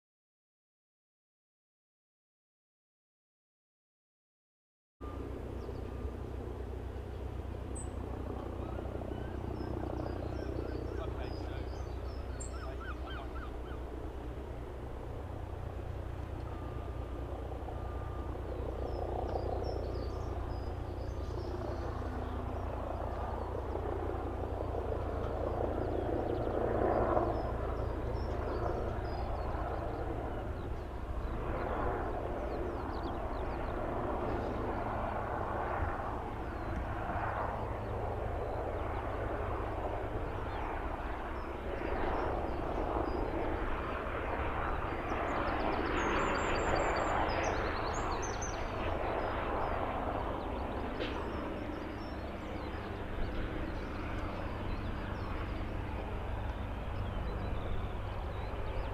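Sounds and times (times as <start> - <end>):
distant helicopter: 5.0 - 58.9
small birds chirping: 7.0 - 14.0, 16.2 - 35.2, 37.5 - 58.9.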